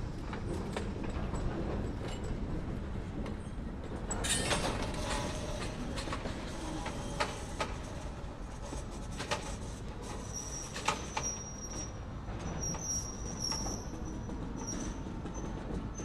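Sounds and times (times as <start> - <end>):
freight cars rumbling on rails: 0.0 - 16.0.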